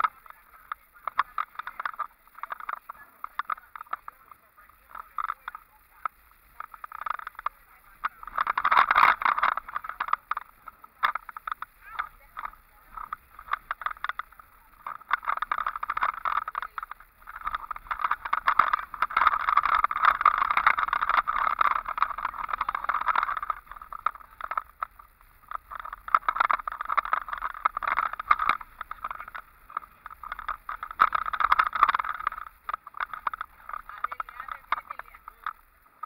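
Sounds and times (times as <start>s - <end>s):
car rattling over rough dirt road: 0.0s - 36.0s.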